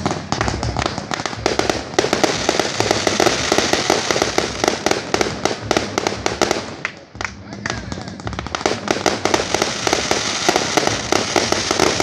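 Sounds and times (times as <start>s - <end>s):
fireworks bangs and cracks: 0.0s - 12.0s
hiss of burning fireworks: 0.0s - 12.0s.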